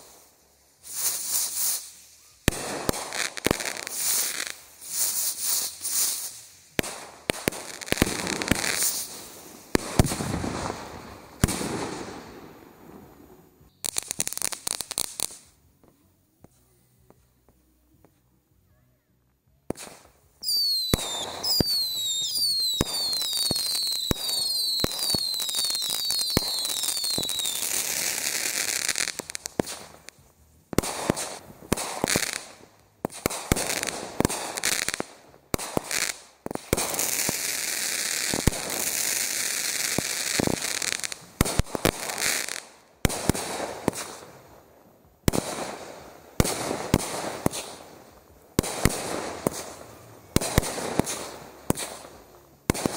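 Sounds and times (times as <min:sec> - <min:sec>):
fireworks whistling: 0:00.0 - 0:15.6, 0:19.7 - 0:30.2, 0:30.8 - 0:44.5, 0:45.2 - 0:52.9
fireworks bangs and pops: 0:00.0 - 0:18.3, 0:19.3 - 0:52.9
fireworks crackling: 0:00.0 - 0:18.3, 0:19.3 - 0:52.9.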